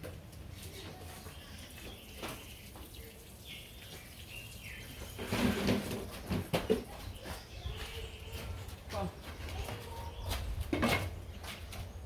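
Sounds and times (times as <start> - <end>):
birds calling: 0.4 - 12.0.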